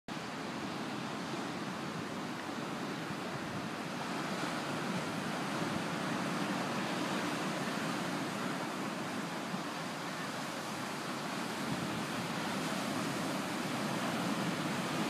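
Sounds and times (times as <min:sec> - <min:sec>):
surf breaking on beach: 0:00.1 - 0:15.0
wind: 0:00.1 - 0:15.0.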